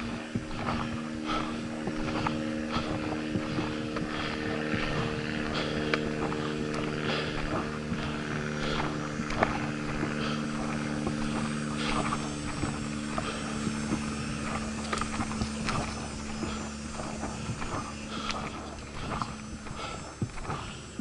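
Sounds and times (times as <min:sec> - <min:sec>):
engine drone: 0:00.0 - 0:21.0
footsteps on a trail: 0:00.0 - 0:21.0.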